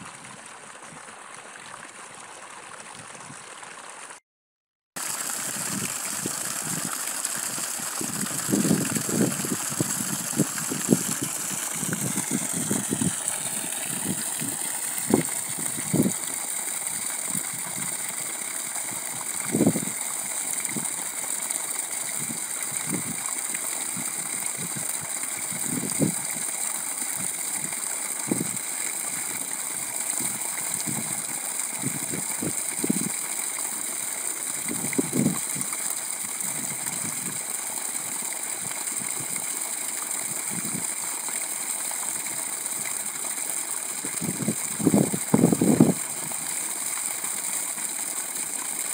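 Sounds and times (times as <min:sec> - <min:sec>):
water gushing from a hose: 0:00.0 - 0:04.2, 0:05.0 - 0:48.9
water splashing: 0:00.0 - 0:04.2, 0:05.0 - 0:48.9.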